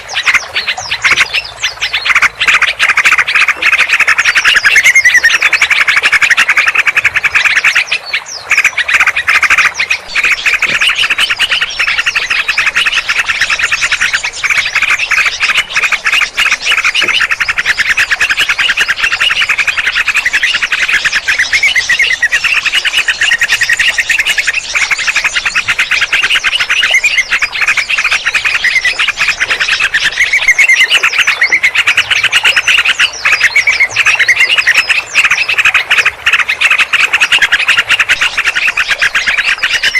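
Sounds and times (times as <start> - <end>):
small birds chattering and chirping: 0.0 - 39.9.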